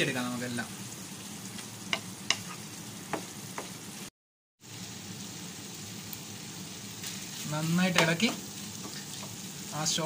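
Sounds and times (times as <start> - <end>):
meat sizzling in frying pan: 0.0 - 10.0.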